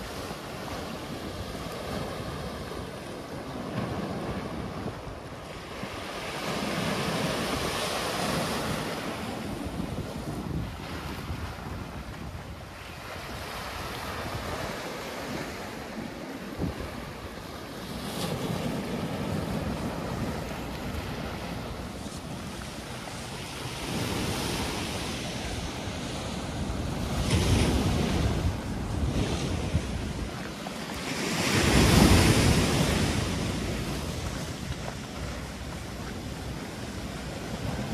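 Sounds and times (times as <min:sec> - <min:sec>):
sea waves breaking: 0:00.0 - 0:37.9
wind buffeting microphone: 0:07.0 - 0:37.9.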